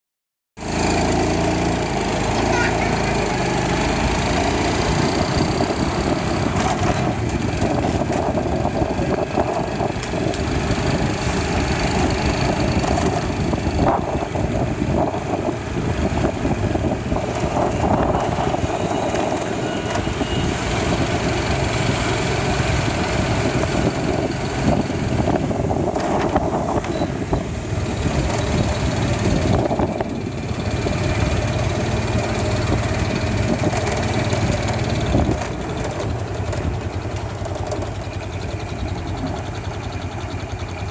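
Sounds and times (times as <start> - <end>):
large engine rumbling: 0.6 - 40.9.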